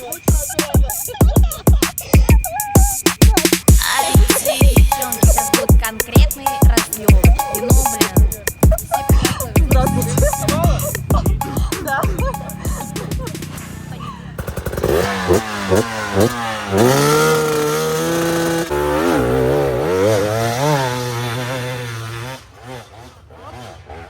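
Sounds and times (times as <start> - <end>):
motorcycle engine revving hard: 3.2 - 24.0.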